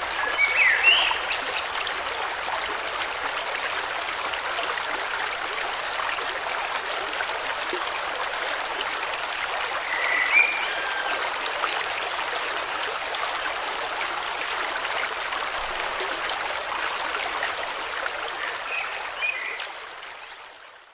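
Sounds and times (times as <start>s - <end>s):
river water flowing: 0.0s - 20.9s.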